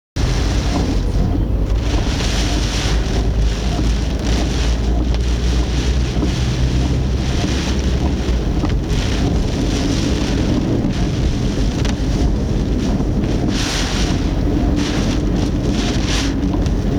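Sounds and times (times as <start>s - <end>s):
wind and rain battering a car: 0.2s - 16.9s.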